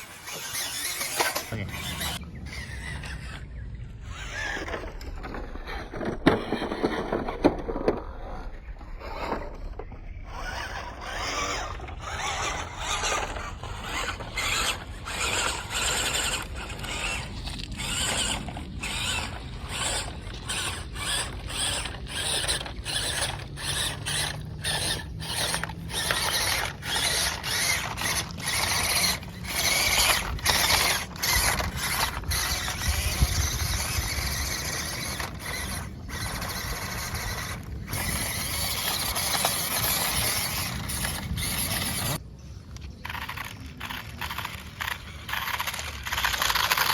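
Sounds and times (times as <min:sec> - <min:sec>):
toy car motor whirring: 0:00.0 - 0:42.2, 0:42.8 - 0:46.9.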